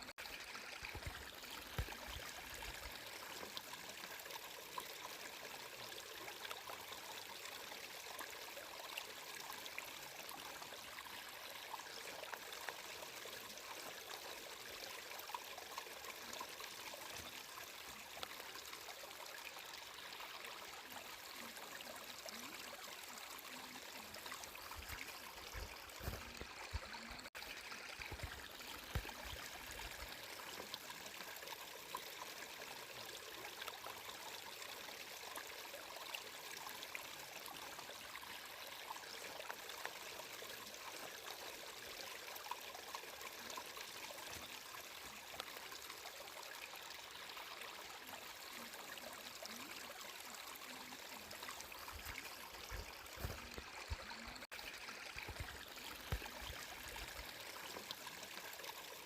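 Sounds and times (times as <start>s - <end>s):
water rushing and trickling: 0.0s - 59.0s.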